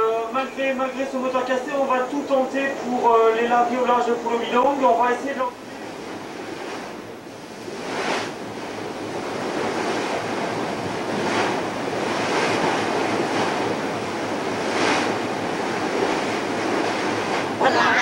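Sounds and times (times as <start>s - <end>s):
sea water rushing: 0.0s - 18.0s.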